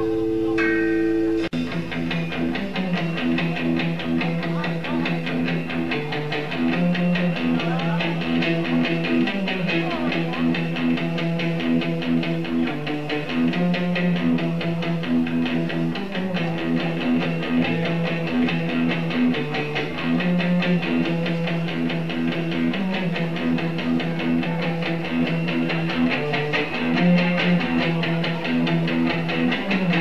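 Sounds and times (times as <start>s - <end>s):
bass: 0.0s - 30.0s
drums: 0.0s - 30.0s
electric guitars strumming riff: 0.0s - 30.0s.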